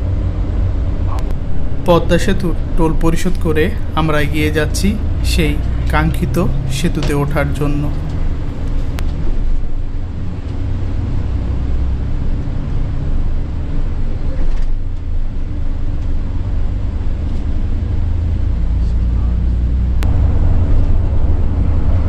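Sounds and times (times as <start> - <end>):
bus diesel engine rumble: 0.0 - 22.0.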